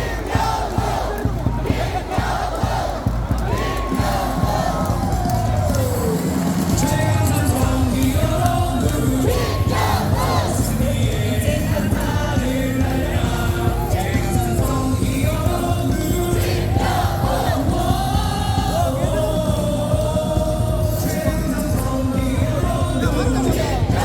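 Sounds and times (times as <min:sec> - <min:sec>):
crowd singing a cheer song: 0:00.0 - 0:24.0
loud amplified music: 0:00.0 - 0:24.0.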